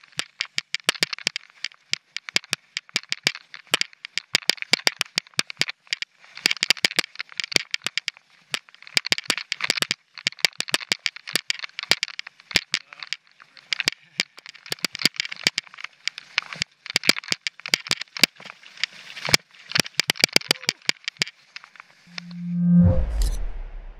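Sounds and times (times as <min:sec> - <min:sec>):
mountain bike rattling on rocks: 0:00.0 - 0:22.1.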